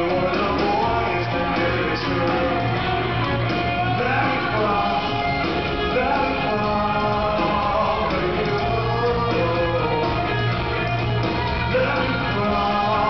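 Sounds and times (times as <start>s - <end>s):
live rock band playing: 0.0s - 13.0s
man singing lead: 0.0s - 13.0s.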